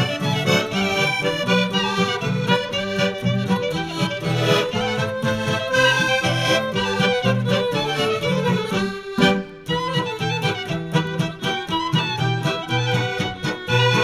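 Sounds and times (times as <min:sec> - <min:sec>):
lively instrumental tune: 0:00.0 - 0:14.0.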